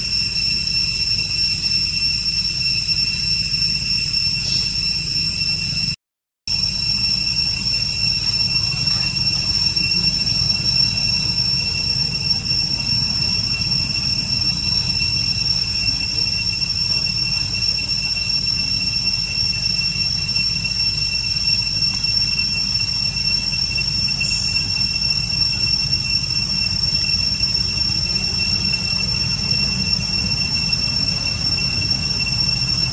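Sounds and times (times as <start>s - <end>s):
forest insects droning: 0.0s - 5.9s, 6.5s - 32.9s.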